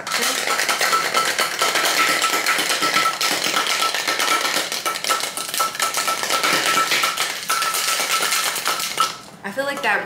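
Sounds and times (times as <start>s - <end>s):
ice rattling in cocktail shaker: 0.1s - 9.2s.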